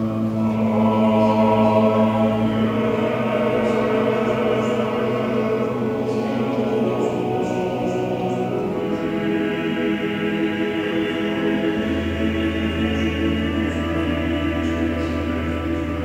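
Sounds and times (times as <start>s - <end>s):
church choir singing: 0.0s - 16.0s.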